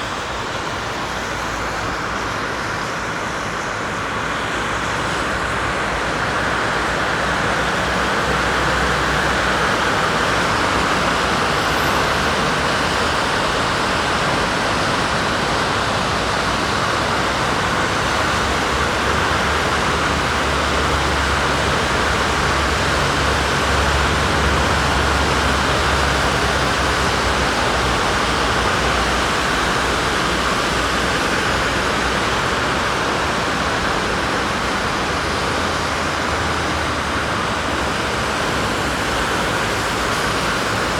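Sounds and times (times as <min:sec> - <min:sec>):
street traffic noise: 0:00.0 - 0:40.9.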